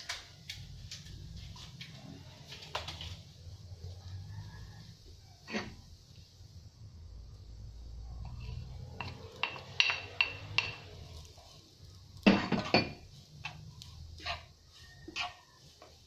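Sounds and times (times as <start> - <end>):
wooden spoon scraping in pan: 1.4 - 6.3, 7.8 - 16.0.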